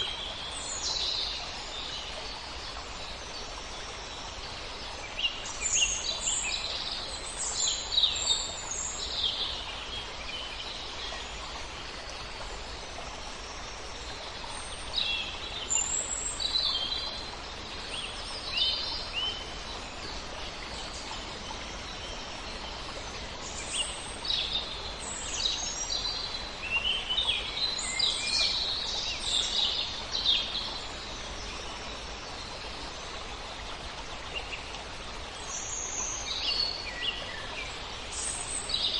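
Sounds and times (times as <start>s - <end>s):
wind through leaves: 0.0s - 38.9s.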